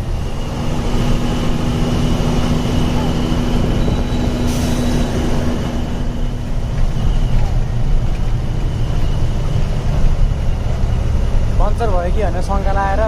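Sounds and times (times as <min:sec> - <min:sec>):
road noise rumbling: 0:00.0 - 0:13.0
truck engine running: 0:00.0 - 0:13.0.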